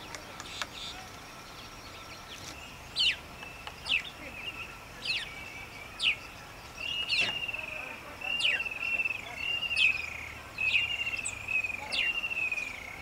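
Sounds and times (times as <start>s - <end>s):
faint background birdsong: 0.0s - 13.0s.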